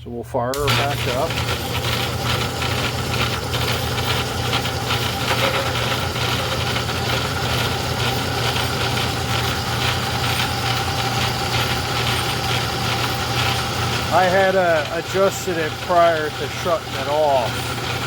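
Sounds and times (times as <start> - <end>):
metal lathe humming and whirring: 0.6 - 18.0.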